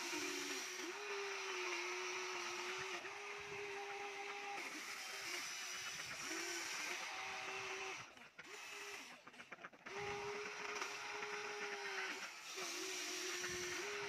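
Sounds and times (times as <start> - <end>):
toy excavator motors whining: 0.0 - 14.0.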